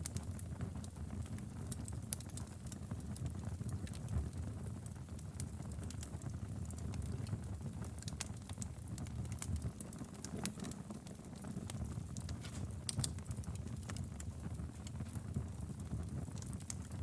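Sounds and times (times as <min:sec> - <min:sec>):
fire crackling and popping: 0:00.0 - 0:17.0
low rumble of flame: 0:00.0 - 0:17.0.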